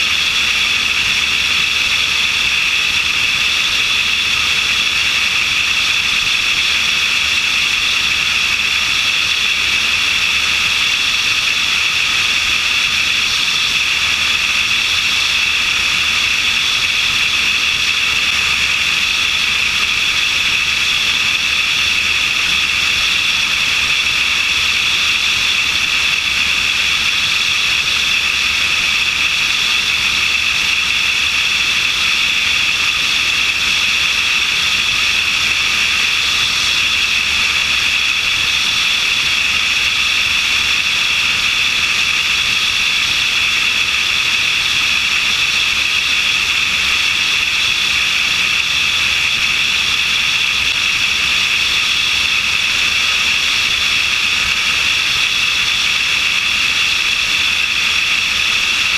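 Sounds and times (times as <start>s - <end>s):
airplane engine: 0.0s - 58.9s.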